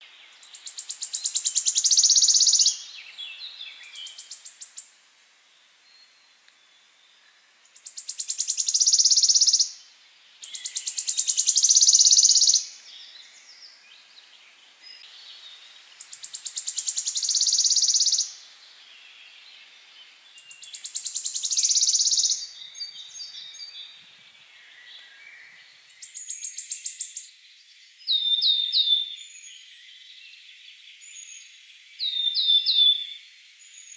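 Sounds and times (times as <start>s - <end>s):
songbird trilling song: 0.0s - 5.0s, 5.6s - 33.9s
soft bird chirps: 0.0s - 33.9s.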